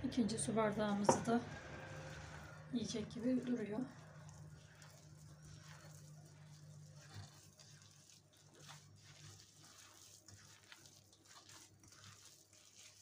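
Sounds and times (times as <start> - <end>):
dough being kneaded by hand: 0.5 - 13.0.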